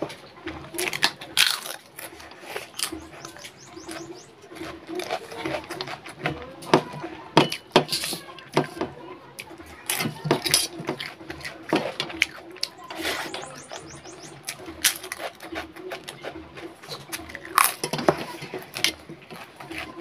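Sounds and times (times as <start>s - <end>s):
crunchy food chewing: 0.0s - 8.5s, 9.4s - 20.0s
fingers mixing rice on steel plate: 0.0s - 20.0s.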